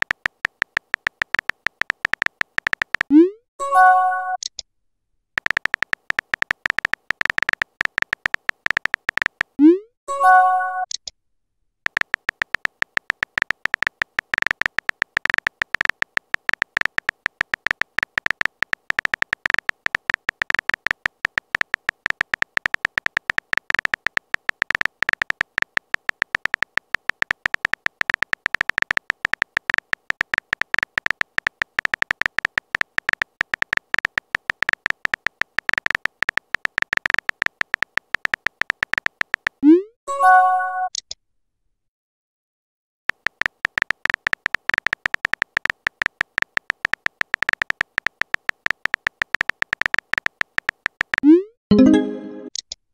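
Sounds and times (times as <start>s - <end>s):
electronic keyboard typing clicks: 0.0s - 4.6s, 5.4s - 11.1s, 11.8s - 39.8s, 43.1s - 52.8s.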